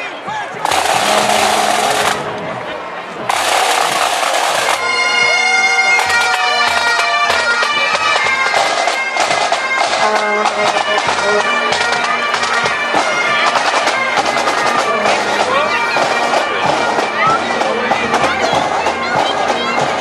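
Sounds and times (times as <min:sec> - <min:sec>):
snare drums beating: 0:00.6 - 0:02.5, 0:03.3 - 0:20.0
bagpipes playing a march: 0:00.6 - 0:02.6, 0:03.3 - 0:20.0.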